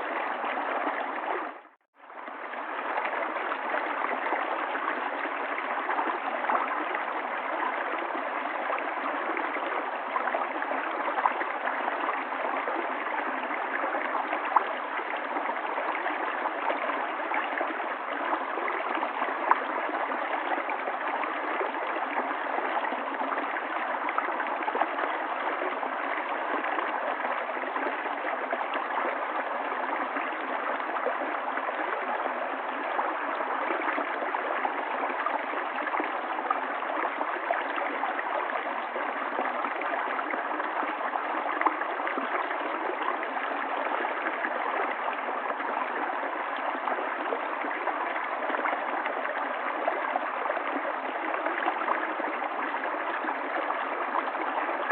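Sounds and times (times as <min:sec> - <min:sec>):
water gurgles and splashes: 0:00.0 - 0:54.9.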